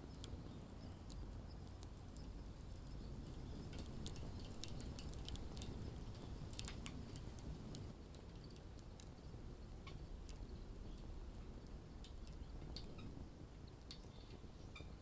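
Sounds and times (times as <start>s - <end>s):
burning wood crackling: 0.0s - 14.7s
low rumble of flames: 0.0s - 15.0s.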